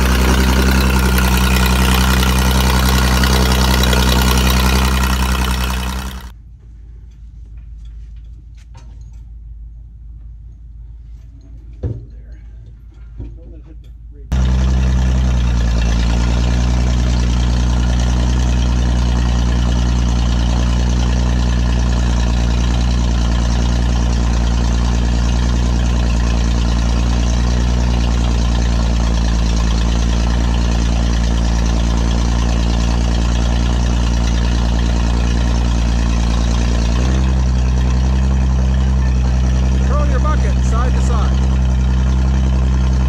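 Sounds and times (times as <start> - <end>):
backhoe engine running: 0.0 - 6.3, 14.3 - 43.0.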